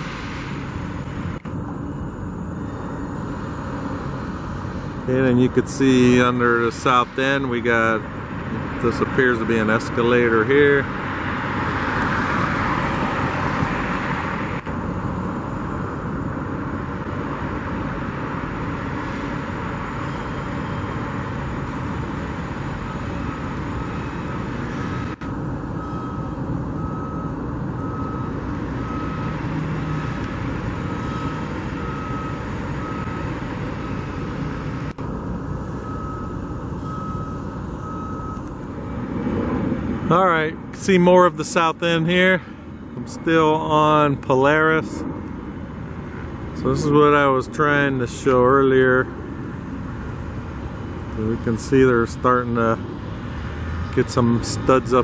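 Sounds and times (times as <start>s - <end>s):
reversing alarm beeping: 0.0s - 11.0s, 14.7s - 39.2s, 40.1s - 52.6s
rumble of vehicles and machinery: 0.0s - 55.0s.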